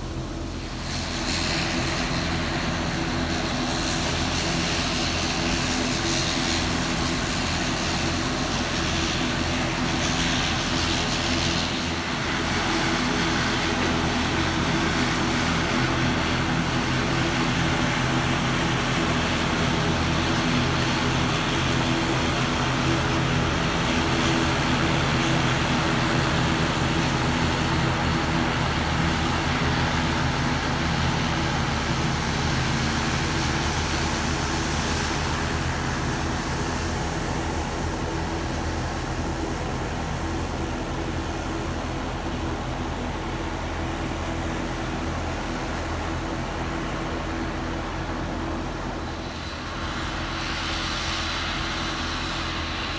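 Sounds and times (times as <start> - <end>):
propeller airplane engines running: 0.0 - 52.9.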